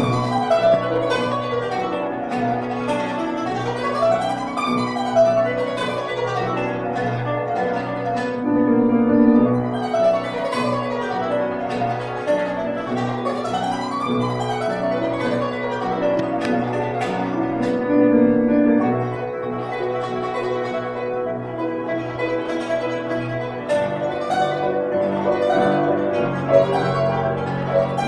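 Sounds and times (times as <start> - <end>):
piano low notes: 0.0 - 28.0
plucked zither runs: 0.0 - 28.0.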